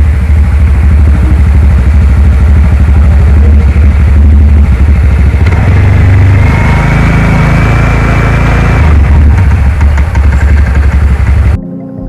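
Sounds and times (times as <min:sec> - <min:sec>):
scooter engine revving and idling: 0:00.0 - 0:11.6.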